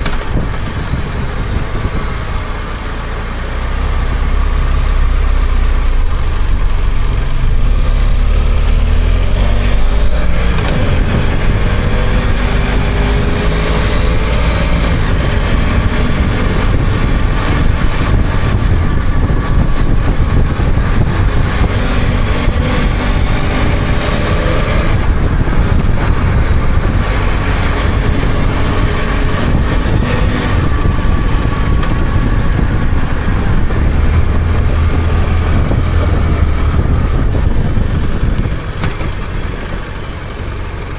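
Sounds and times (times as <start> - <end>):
motorcycle engine accelerating: 0.0 - 40.9
road and wind noise: 0.0 - 40.9.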